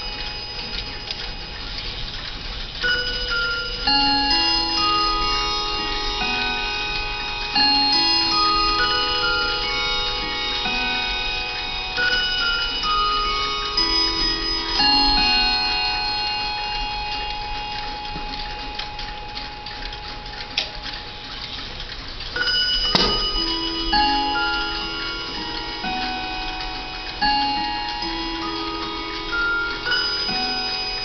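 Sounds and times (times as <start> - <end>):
clock chime notes ringing: 0.0 - 31.0
clock ticking: 0.0 - 31.0.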